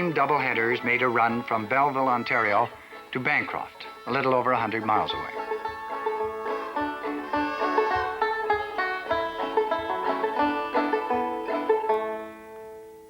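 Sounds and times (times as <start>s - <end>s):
banjo plucked notes: 0.0s - 13.0s.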